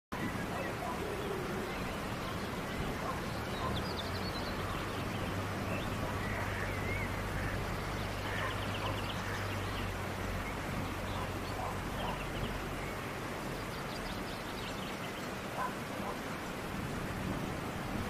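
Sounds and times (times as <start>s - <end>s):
birds calling: 0.1s - 16.8s.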